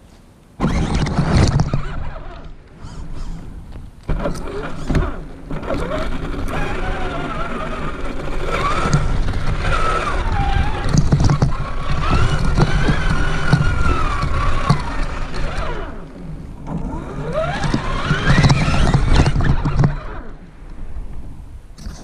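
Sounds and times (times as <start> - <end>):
toy truck crawling over ground: 0.6 - 20.4
electric motor whining: 0.6 - 20.5.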